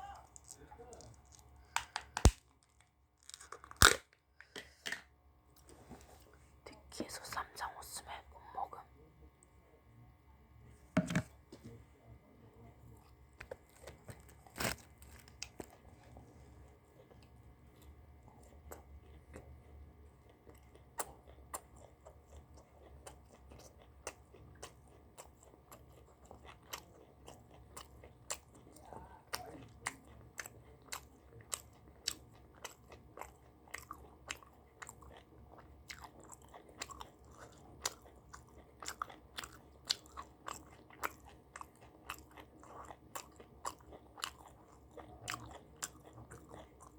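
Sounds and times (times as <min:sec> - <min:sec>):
person chewing crunchy food: 0:00.1 - 0:05.0, 0:13.0 - 0:46.9.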